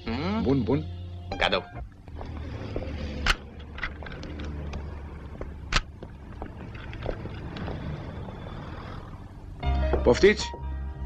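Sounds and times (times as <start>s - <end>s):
low rumble: 1.8s - 11.0s.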